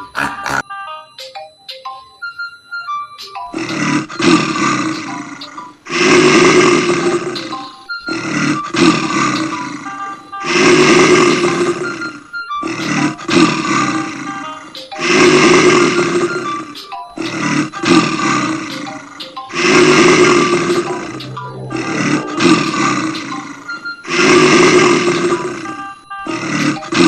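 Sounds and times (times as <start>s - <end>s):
recorded animal roar from toy: 0.0s - 0.6s, 3.5s - 27.0s.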